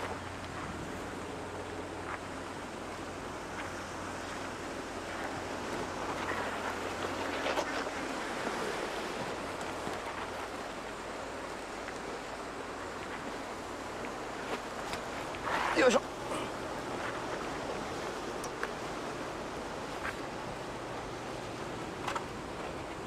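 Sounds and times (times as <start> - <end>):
surf washing against rocks: 0.0 - 23.0.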